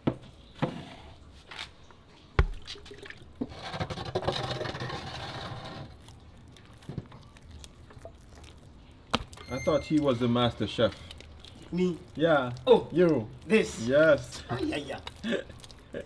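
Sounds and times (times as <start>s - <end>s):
wet squelching and sloshing: 1.2s - 16.0s.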